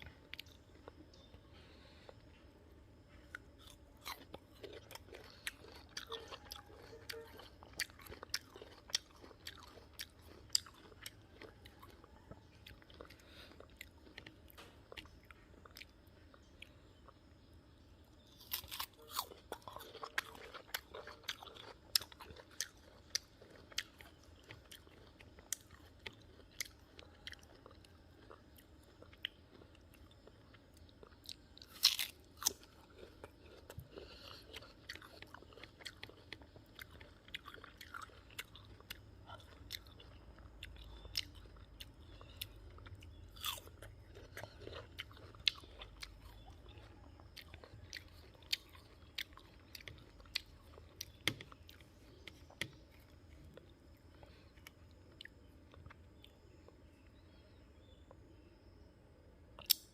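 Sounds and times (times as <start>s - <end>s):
crunching and chewing fruit: 0.0s - 59.9s.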